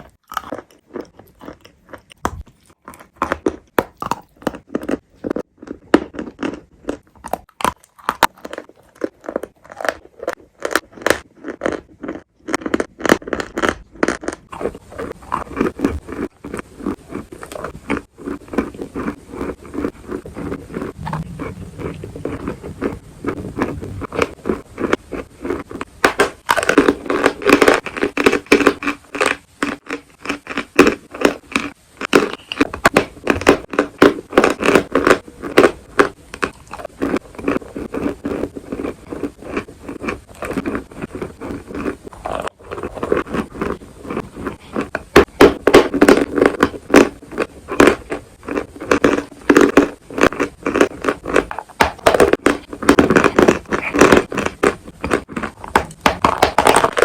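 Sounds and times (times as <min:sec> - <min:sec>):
chalk crunching being chewed: 0:00.0 - 0:57.0.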